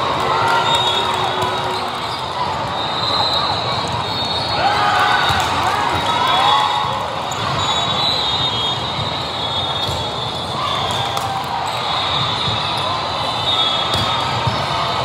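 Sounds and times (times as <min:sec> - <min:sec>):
hubbub of voices: 0:00.0 - 0:15.0.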